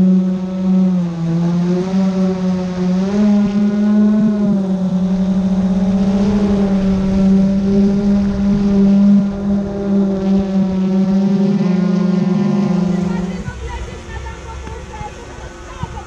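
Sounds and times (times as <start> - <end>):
drone propellers humming: 0.0 - 16.0.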